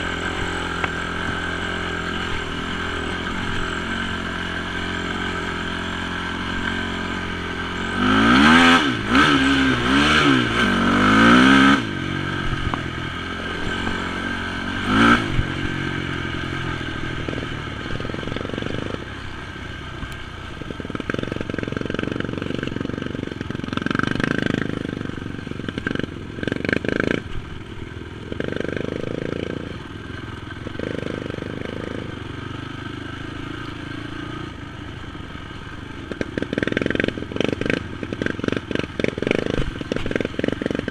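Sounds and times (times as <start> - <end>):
quad engine revving: 0.0 - 27.5, 28.2 - 34.8, 36.0 - 40.9.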